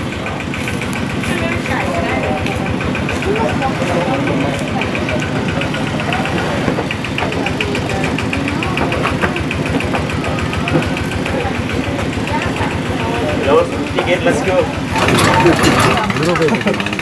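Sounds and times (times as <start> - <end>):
engine idling with knocking clatter: 0.0 - 17.0.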